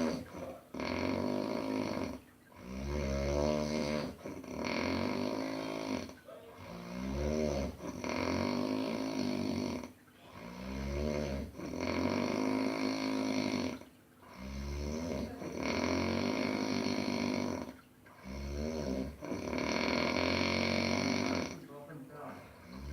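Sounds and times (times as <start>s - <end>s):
baby snoring: 0.0s - 22.9s.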